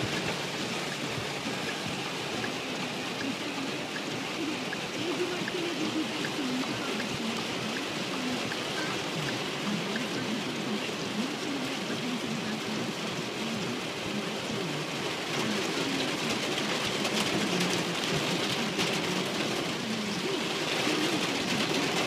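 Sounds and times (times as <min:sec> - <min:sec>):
heavy rain drumming on car roof: 0:00.0 - 0:22.0.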